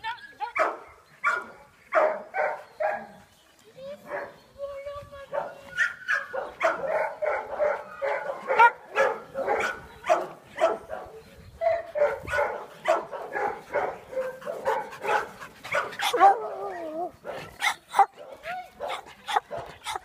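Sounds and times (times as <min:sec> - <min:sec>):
dogs barking excitedly: 0:00.5 - 0:03.2, 0:05.3 - 0:20.0.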